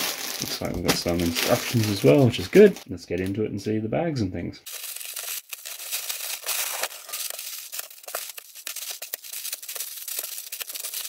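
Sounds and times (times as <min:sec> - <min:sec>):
plastic wrap crinkling: 0:00.0 - 0:02.9, 0:04.7 - 0:11.0.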